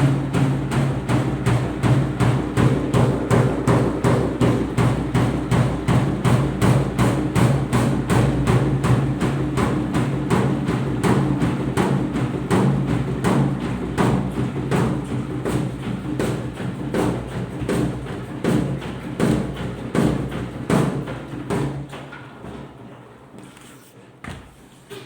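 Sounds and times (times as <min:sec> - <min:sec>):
washing machine tub knocking: 0:00.0 - 0:22.8.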